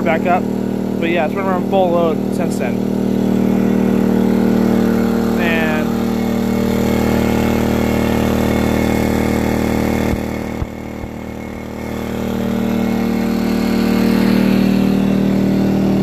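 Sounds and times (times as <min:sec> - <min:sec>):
generator engine droning: 0:00.0 - 0:16.0.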